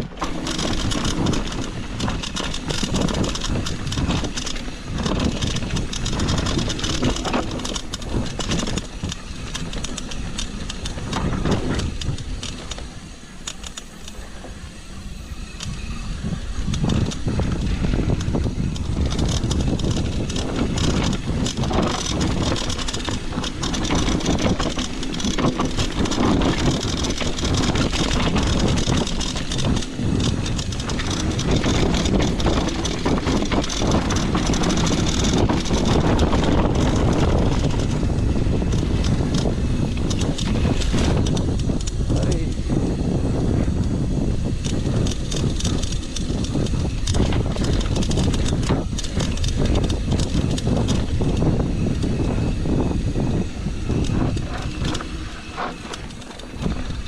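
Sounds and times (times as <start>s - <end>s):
bike tyres rattling over rough ground: 0.0s - 57.0s
wind buffeting microphone: 0.0s - 57.0s.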